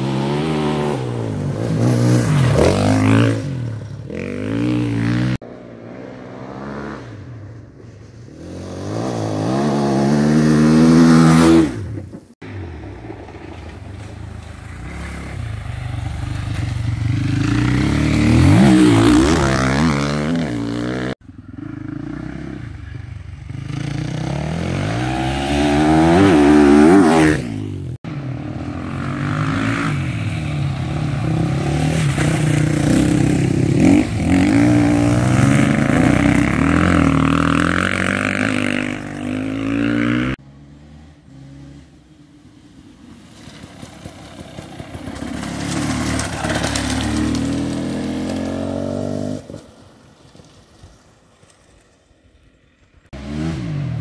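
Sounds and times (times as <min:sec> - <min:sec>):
motorcycles passing revving: 0:00.0 - 0:49.7, 0:51.4 - 0:54.0.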